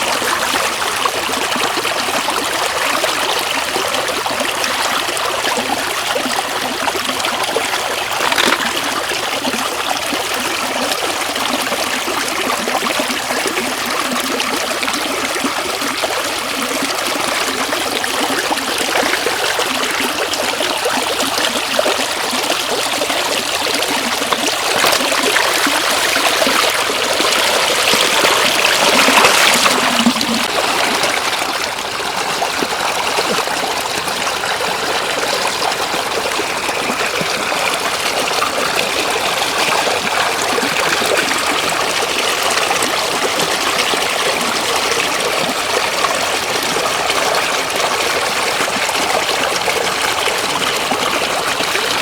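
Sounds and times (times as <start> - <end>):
floodwater trickling: 0.0 - 52.0.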